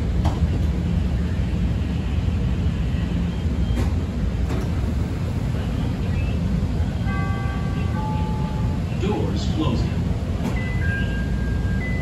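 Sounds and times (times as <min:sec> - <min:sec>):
train rumbling along track: 0:00.0 - 0:12.0.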